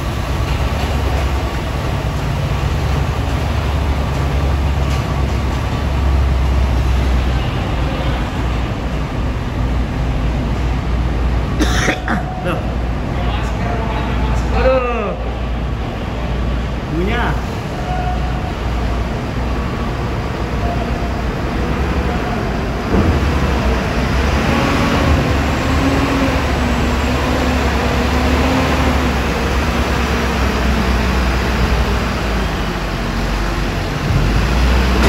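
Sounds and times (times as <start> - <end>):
heavy diesel truck engine: 0.0 - 35.0.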